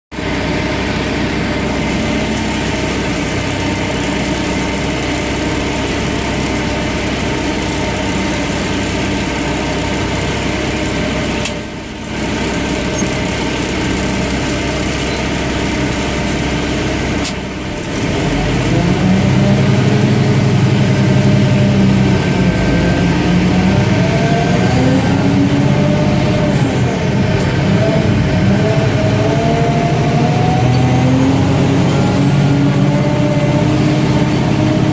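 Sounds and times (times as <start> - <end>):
truck diesel engine running: 0.1 - 34.9.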